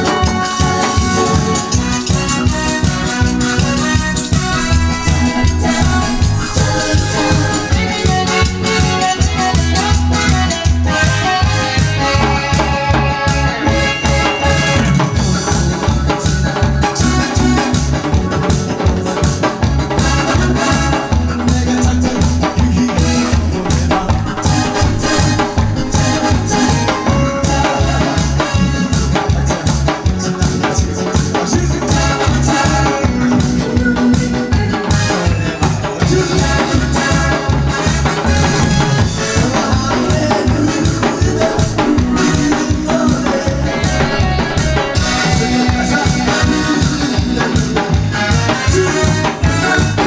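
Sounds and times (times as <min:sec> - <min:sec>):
fast-beat instrumental music: 0:00.4 - 0:12.5, 0:19.8 - 0:33.8, 0:35.7 - 0:50.0.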